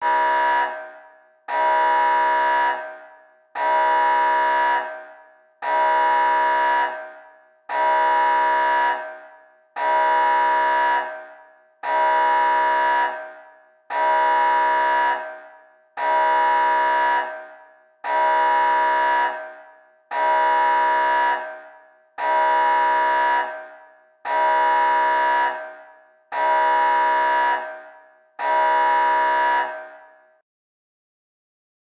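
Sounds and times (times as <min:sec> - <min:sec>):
horn-like alarm blasts: 0:00.0 - 0:30.2.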